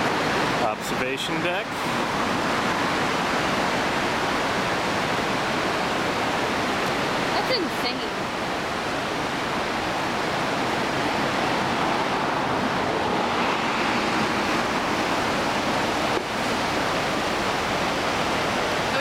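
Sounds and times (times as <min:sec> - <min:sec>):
flood water rushing: 0:00.0 - 0:19.0.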